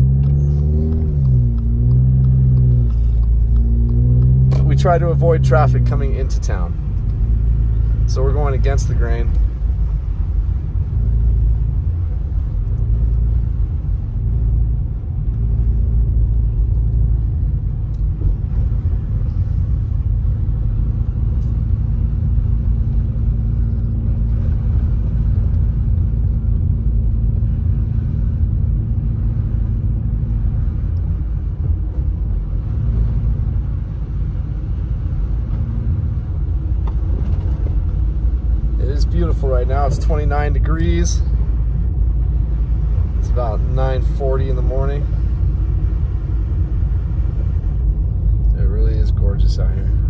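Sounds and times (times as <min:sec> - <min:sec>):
tyre noise on wet road: 0:00.0 - 0:48.8
car engine hum: 0:00.0 - 0:50.0.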